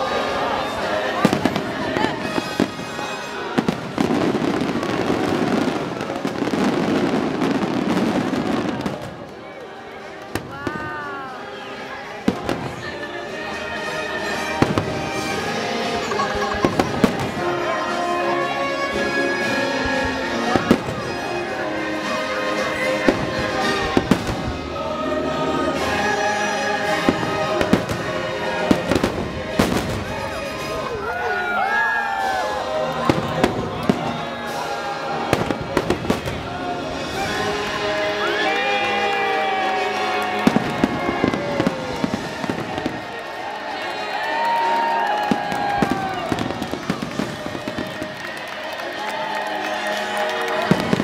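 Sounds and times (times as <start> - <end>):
show music with singing: 0.0 - 5.7, 10.0 - 51.0
fireworks bangs and crackling: 0.1 - 24.8, 25.6 - 51.0.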